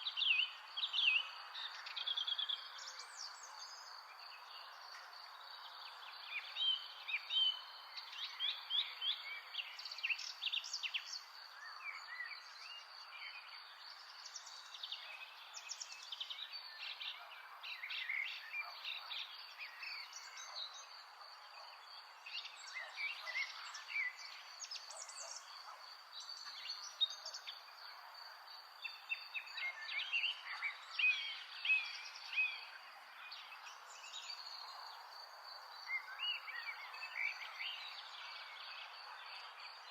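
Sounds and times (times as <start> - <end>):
birds chirping and trilling: 0.1 - 39.8.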